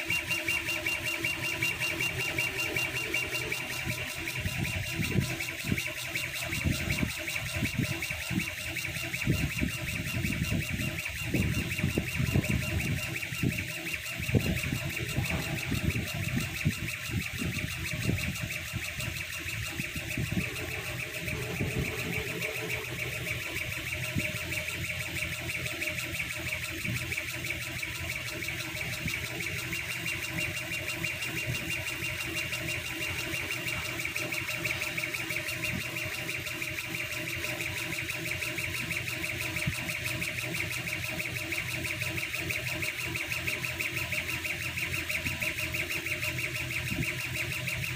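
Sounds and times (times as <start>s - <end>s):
laser cutter gantry stuttering: 0.0s - 47.9s
machine hiss and hum: 0.0s - 47.9s.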